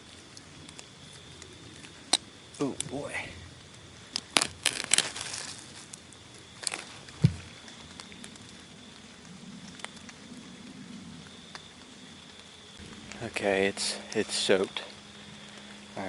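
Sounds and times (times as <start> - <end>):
rain dripping on leaves: 0.0 - 16.0.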